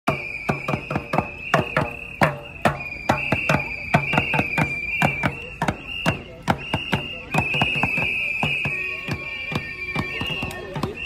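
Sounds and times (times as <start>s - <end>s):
noisemakers banging: 0.1s - 11.0s.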